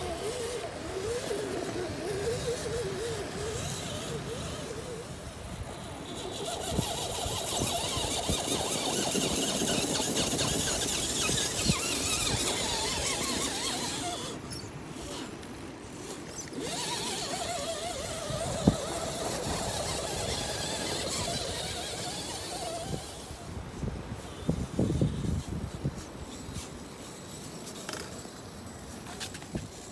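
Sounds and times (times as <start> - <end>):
electric motor and drivetrain whining: 0.0 - 29.9.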